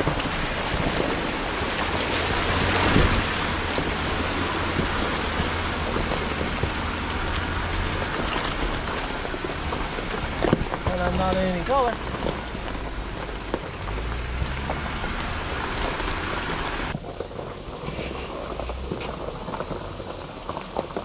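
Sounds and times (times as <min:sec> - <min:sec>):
tyres rushing through mud: 0:00.0 - 0:21.0
vehicle engine drone: 0:00.0 - 0:21.0.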